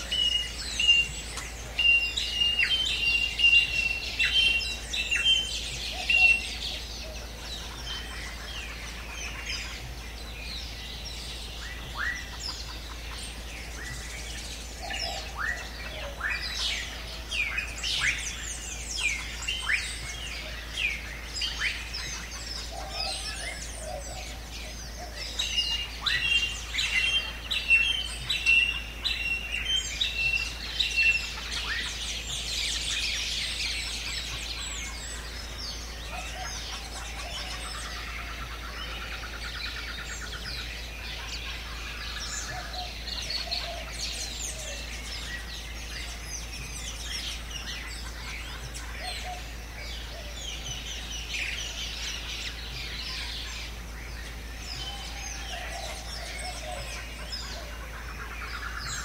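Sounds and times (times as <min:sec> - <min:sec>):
forest birds chirping: 0:00.0 - 0:59.0.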